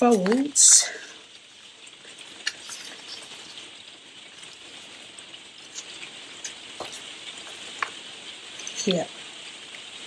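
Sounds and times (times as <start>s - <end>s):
paper rustling: 0.0s - 0.7s, 1.5s - 9.0s.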